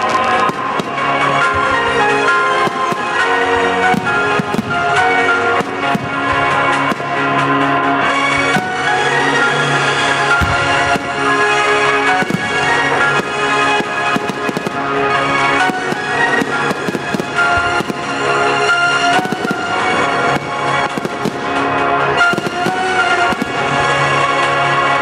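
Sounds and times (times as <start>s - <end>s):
fireworks bangs and crackles: 0.0s - 25.0s
music with long held notes: 0.0s - 25.0s.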